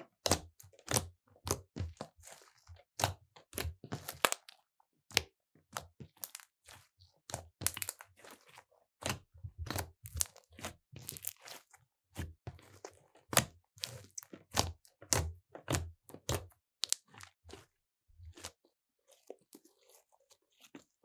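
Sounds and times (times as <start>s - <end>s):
slime being kneaded: 0.1s - 21.0s.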